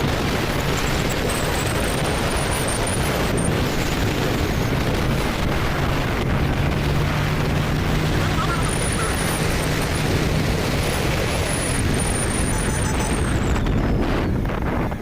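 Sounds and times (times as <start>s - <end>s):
motorcycle engine droning: 0.0s - 15.0s
wind buffeting microphone: 0.0s - 15.0s.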